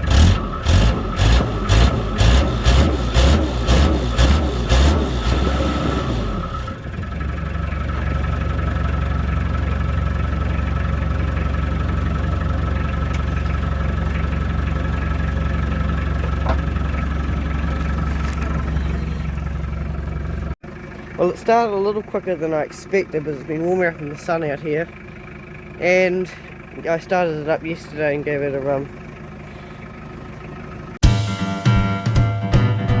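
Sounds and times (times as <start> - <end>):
diesel engine surging then idling: 0.0 - 33.0.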